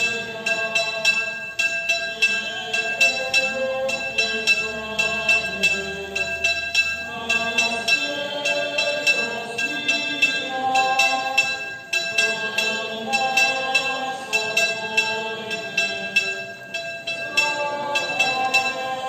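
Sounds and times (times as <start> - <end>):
ringing bell clinks: 0.0 - 19.0
slow processional melody: 0.0 - 19.0.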